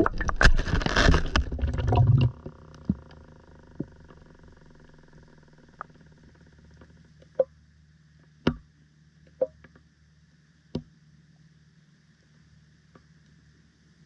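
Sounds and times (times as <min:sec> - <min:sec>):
faint low underwater hum: 0:00.0 - 0:14.0.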